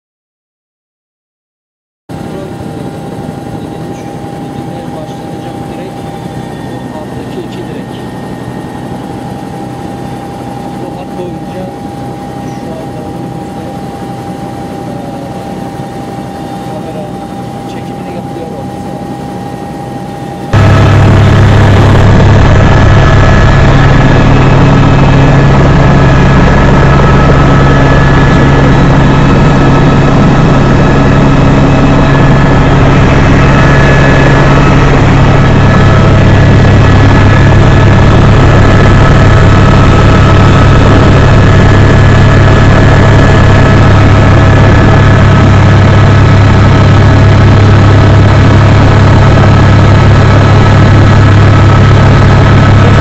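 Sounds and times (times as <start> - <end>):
helicopter engine and rotors droning: 2.1 - 53.0
steady whining tones: 2.1 - 53.0.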